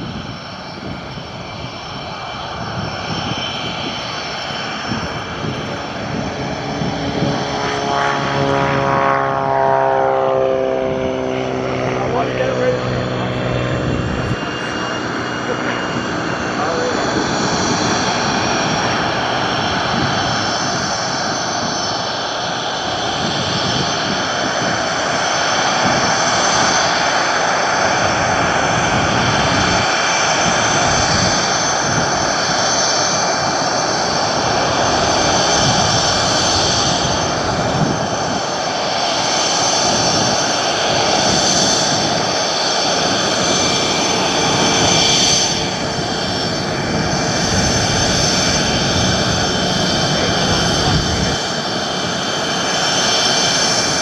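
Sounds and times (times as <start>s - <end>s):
aircraft turbine engines running: 0.0s - 54.0s.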